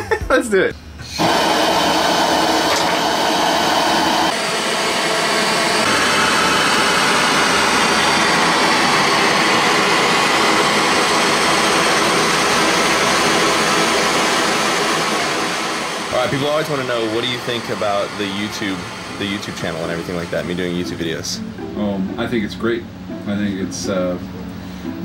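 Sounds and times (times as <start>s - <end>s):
torch flame hissing: 1.0s - 21.4s.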